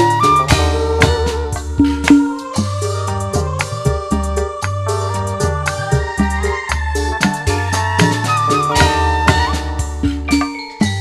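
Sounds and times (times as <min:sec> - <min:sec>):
hand drums: 0:00.0 - 0:04.8, 0:05.5 - 0:11.0
bass guitar: 0:00.0 - 0:11.0
electronic keyboard melody: 0:00.0 - 0:11.0.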